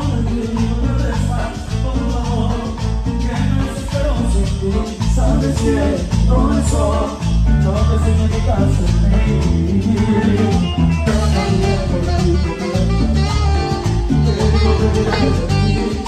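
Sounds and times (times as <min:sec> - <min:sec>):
salsa band playing: 0:00.0 - 0:16.0.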